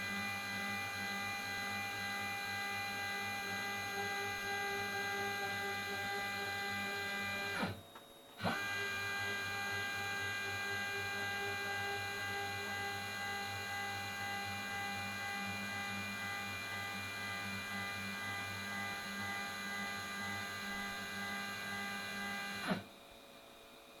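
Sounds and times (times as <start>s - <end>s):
router motors whining: 0.2s - 7.8s, 8.4s - 22.8s.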